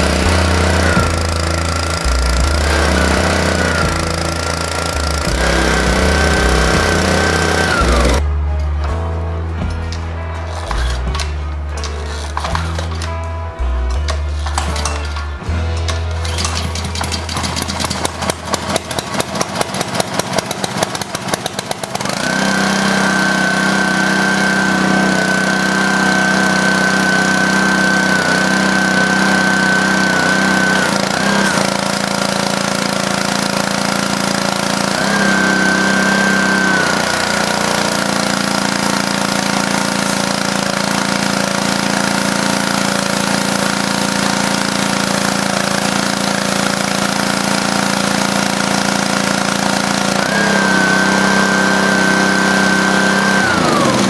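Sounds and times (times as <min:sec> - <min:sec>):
pressure washer engine running: 0:00.0 - 0:54.0.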